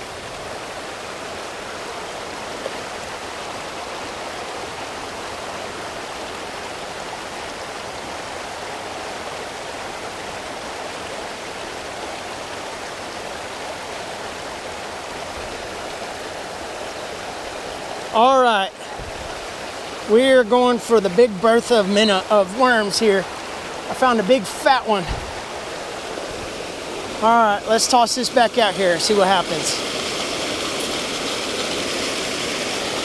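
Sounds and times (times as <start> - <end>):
water rushing through channel: 0.0 - 33.0.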